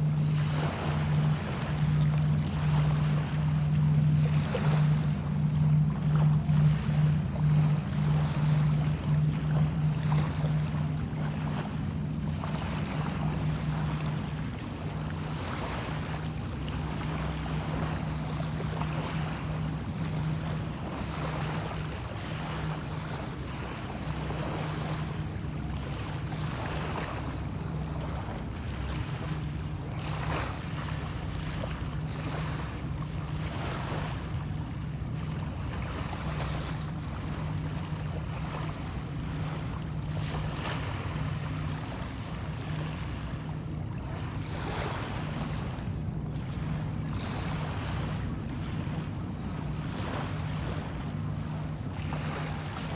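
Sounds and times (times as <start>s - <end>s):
small waves washing in: 0.0s - 52.9s
steady low drone: 0.0s - 52.9s.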